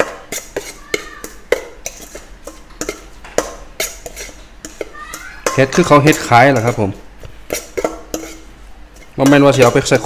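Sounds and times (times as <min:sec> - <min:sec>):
metal spoon clinking in steel bowl: 0:00.0 - 0:10.0.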